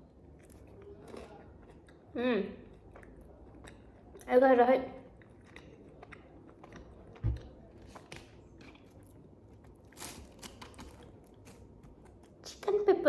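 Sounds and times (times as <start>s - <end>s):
person chewing and crunching food: 0.0s - 4.4s, 5.0s - 12.7s.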